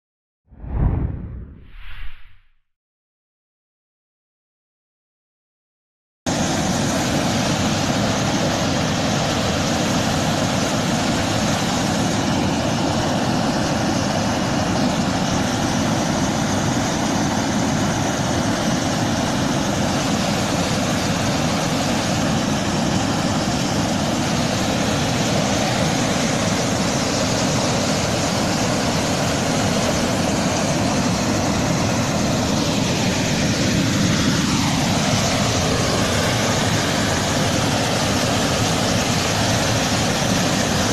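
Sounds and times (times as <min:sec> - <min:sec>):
water roaring over spillway: 0:06.3 - 0:40.9.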